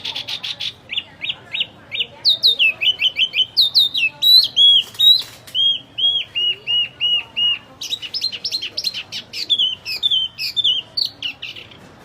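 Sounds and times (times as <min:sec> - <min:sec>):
songbird whistling: 0:00.9 - 0:11.7.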